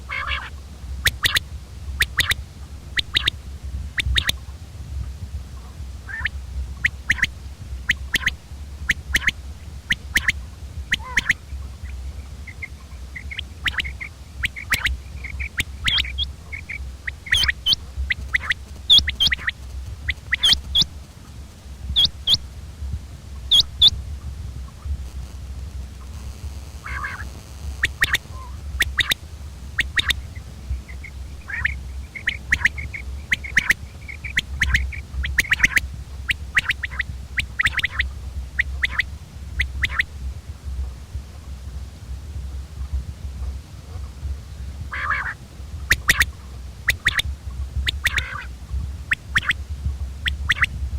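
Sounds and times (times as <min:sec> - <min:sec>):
quail calling: 0:00.0 - 0:03.4, 0:04.0 - 0:04.6, 0:05.6 - 0:22.5, 0:23.3 - 0:24.0, 0:26.0 - 0:41.5, 0:44.9 - 0:50.8
steady low hum: 0:00.0 - 0:50.9.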